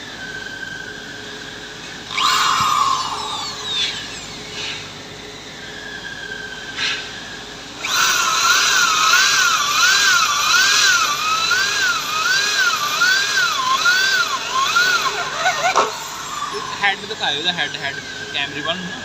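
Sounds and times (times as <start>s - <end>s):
electric drill whining: 0.0s - 19.0s.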